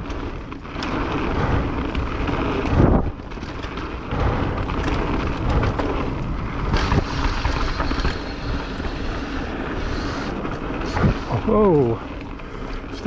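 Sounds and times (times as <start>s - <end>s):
bike clicks and rattles: 0.0s - 13.0s
bike tyre noise: 0.0s - 13.0s
wind buffeting microphone: 0.0s - 13.0s.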